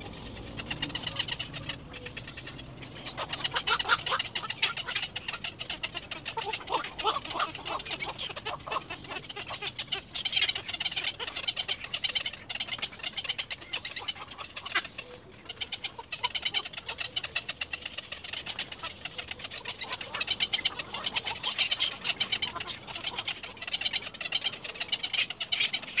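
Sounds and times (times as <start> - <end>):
egret chicks chattering: 0.0 - 26.0.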